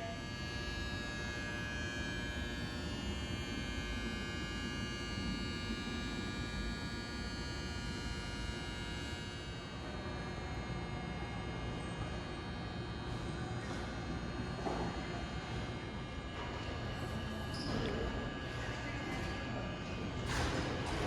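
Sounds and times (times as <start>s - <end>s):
electrical hum and whine: 0.0s - 21.0s.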